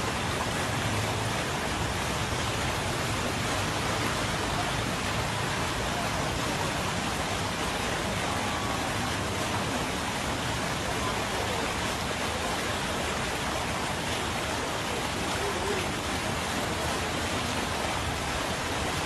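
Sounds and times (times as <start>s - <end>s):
rushing floodwater and rain: 0.0s - 19.0s.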